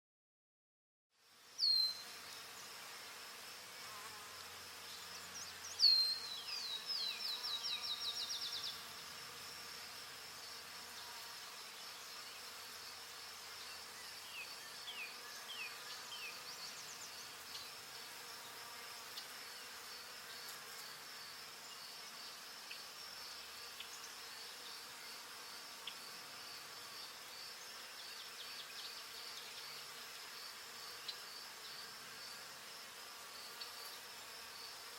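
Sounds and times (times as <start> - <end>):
high insect drone: 1.2 - 34.9.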